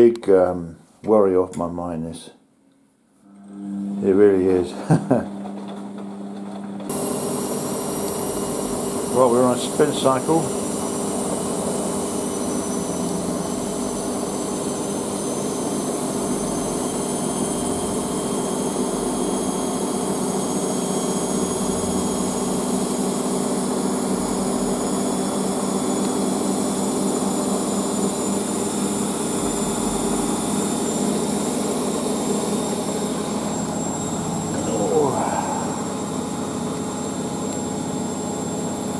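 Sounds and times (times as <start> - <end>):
washing machine spinning: 3.3 - 38.9.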